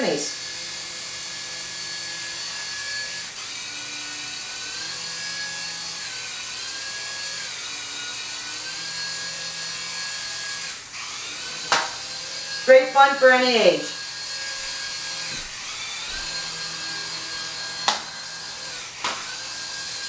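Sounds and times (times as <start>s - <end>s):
small propeller motors whirring: 0.0s - 12.8s, 13.9s - 20.0s.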